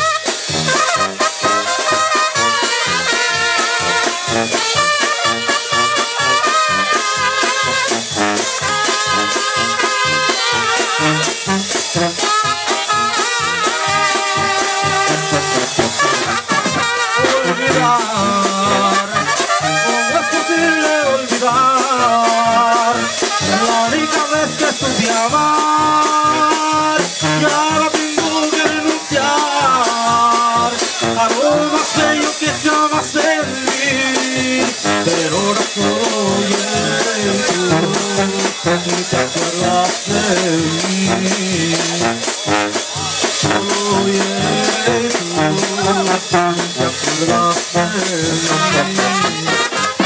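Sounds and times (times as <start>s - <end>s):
bass drum and cymbal on the beat: 0.0s - 50.0s
brass band playing: 0.0s - 50.0s
sousaphone bass line: 0.0s - 50.0s.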